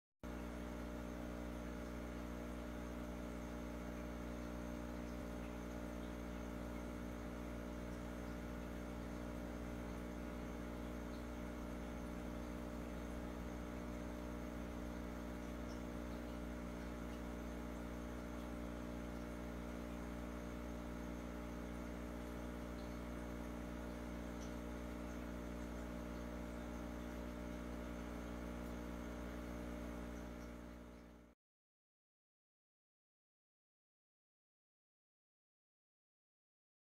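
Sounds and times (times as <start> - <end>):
electrical hum: 0.3 - 31.4.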